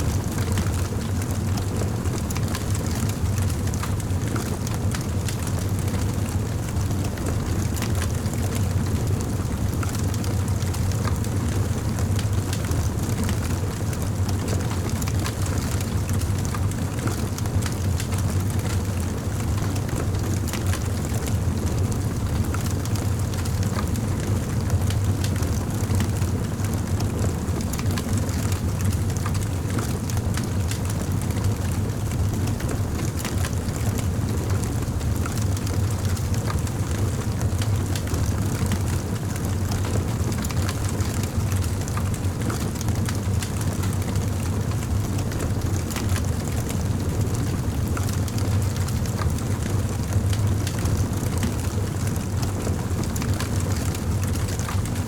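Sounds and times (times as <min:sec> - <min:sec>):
campfire flames rumbling: 0:00.0 - 0:55.0.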